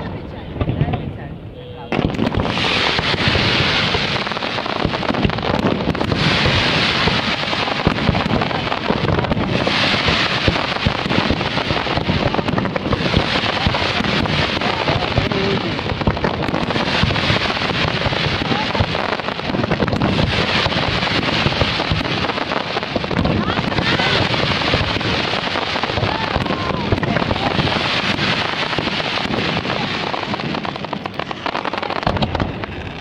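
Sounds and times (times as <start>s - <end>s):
fireworks bursting and crackling: 0.0s - 33.0s
hissing crackle of fireworks: 1.8s - 33.0s.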